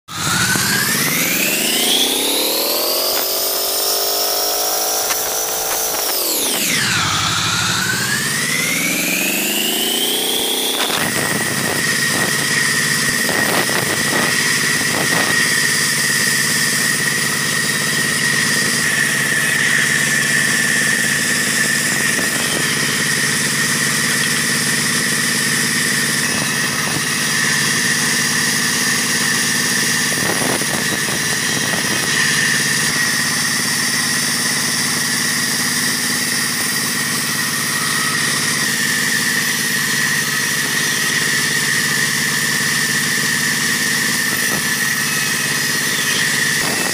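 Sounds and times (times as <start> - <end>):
band saw whining: 0.1 - 46.9
saw blade cutting wood: 0.1 - 46.9.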